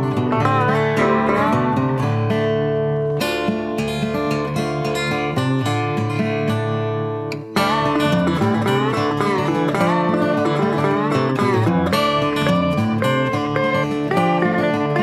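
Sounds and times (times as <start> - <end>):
strummed acoustic guitar music: 0.0 - 15.0.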